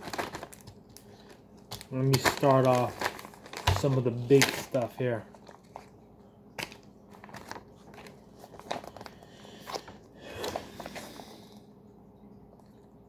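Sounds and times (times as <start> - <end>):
packaging rustling and crinkling: 0.0 - 11.3.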